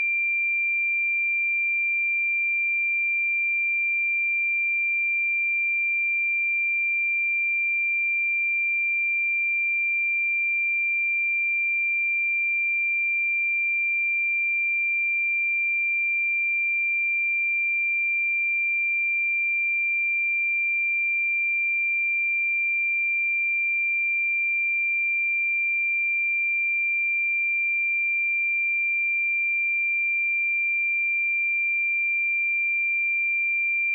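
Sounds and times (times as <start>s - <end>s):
sine-wave test tone: 0.0s - 33.9s.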